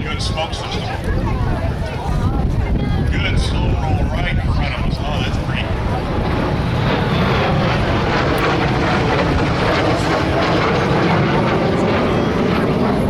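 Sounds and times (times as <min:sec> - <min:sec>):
jet flying past low: 0:00.0 - 0:13.0.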